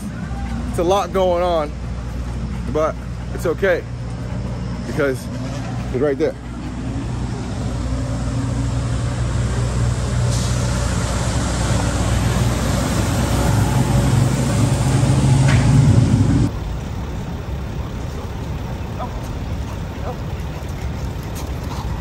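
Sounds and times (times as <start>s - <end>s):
passing vehicle engines: 0.0s - 22.0s
road noise: 0.0s - 22.0s.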